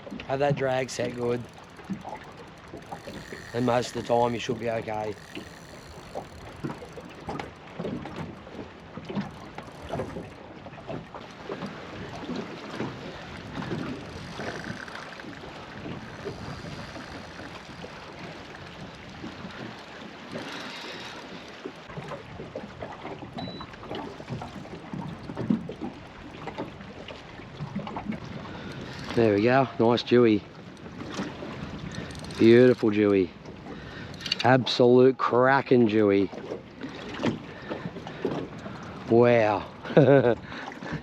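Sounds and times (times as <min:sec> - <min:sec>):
water lapping against boat: 0:00.0 - 0:41.0.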